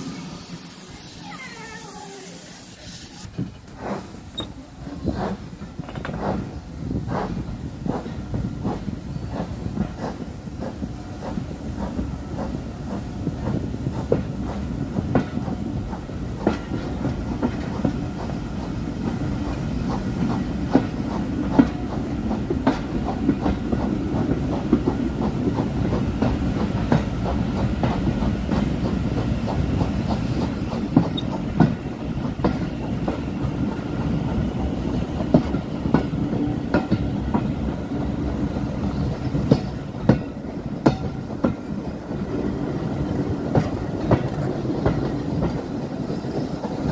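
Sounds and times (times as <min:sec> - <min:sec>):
train coach rumble: 0:00.0 - 0:46.9
wheels clicking over rail joints: 0:03.2 - 0:46.9.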